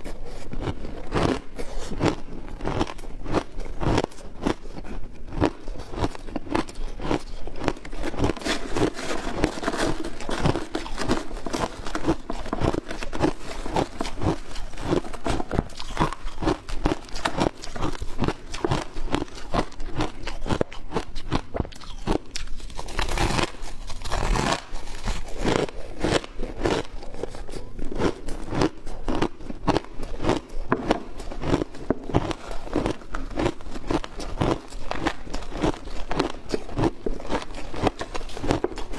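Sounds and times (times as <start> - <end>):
chewing shaved ice crunches: 0.0 - 38.9.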